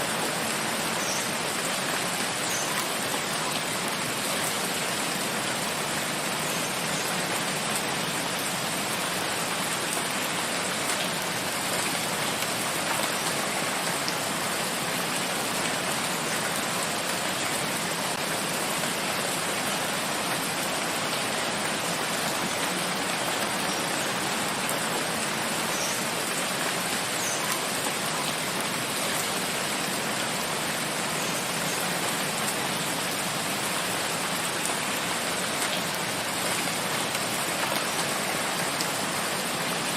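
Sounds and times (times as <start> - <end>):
rain hissing in forest: 0.0 - 39.9.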